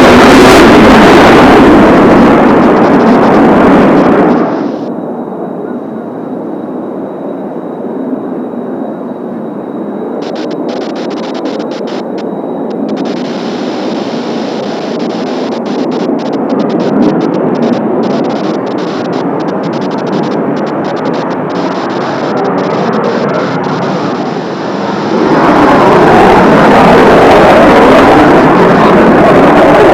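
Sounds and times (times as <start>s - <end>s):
jet engine roar: 0.0s - 29.9s.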